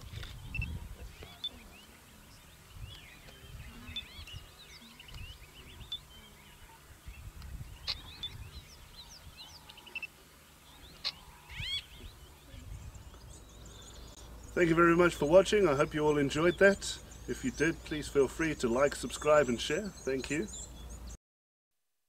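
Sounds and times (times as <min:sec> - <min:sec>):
small birds chirping: 0:00.0 - 0:21.2.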